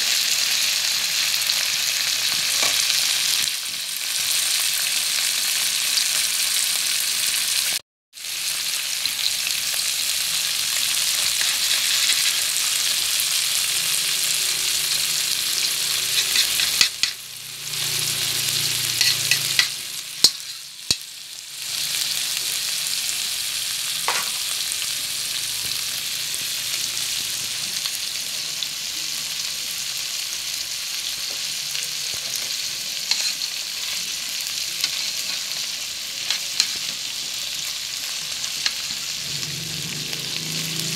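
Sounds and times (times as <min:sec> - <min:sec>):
food sizzling in a wok: 0:00.0 - 0:40.9.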